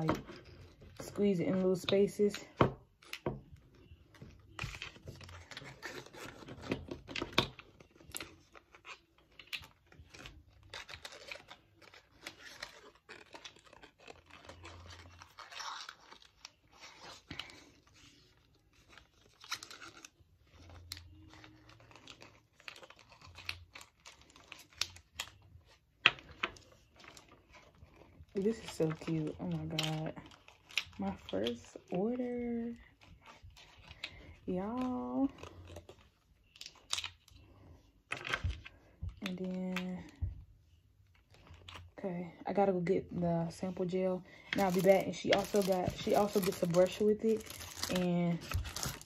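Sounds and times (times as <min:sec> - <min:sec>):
packaging crinkling and rustling: 0:00.0 - 0:42.7, 0:43.5 - 0:49.0.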